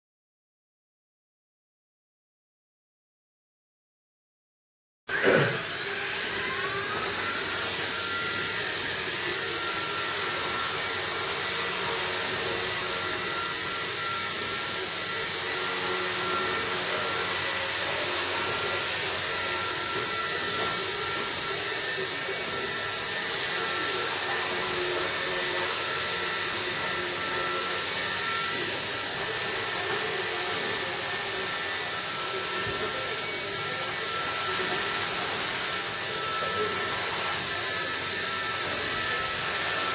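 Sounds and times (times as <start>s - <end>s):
rc helicopter whirring: 5.1s - 39.9s.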